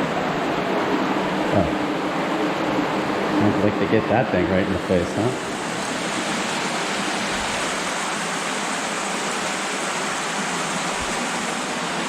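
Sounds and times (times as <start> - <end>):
creek water rushing through tunnel: 0.0 - 12.0.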